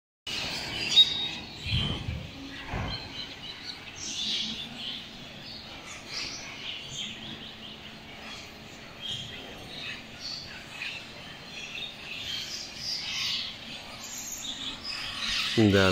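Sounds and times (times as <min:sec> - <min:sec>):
small birds chirping: 0:00.3 - 0:15.9.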